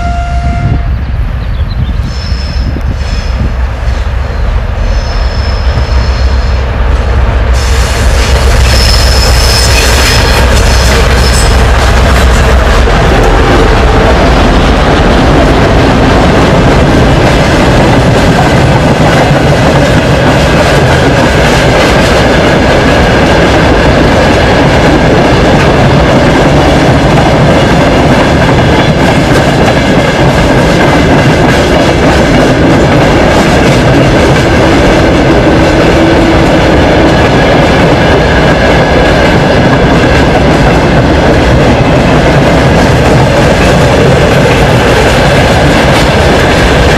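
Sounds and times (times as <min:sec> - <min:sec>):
diesel locomotive drone: 0:00.0 - 0:46.9
train wheels rumbling on rail: 0:00.0 - 0:46.9
clickety-clack over rail joints: 0:08.2 - 0:46.9.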